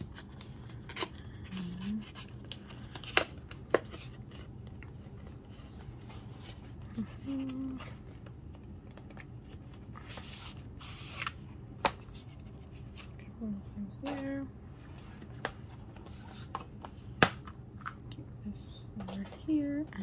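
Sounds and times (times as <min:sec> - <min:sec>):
card and plastic rustling: 0:00.0 - 0:13.3, 0:14.0 - 0:18.1, 0:18.9 - 0:20.0.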